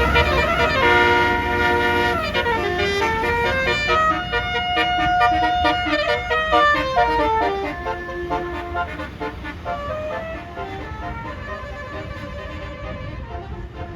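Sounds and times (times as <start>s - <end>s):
bus horn playing melody: 0.0s - 13.9s
low engine rumble: 0.0s - 13.9s.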